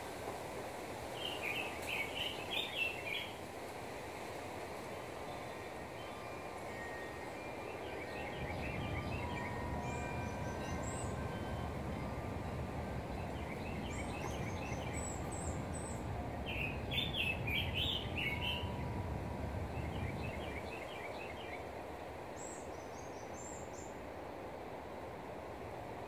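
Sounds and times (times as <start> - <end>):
songbirds chirping: 1.0 - 24.1.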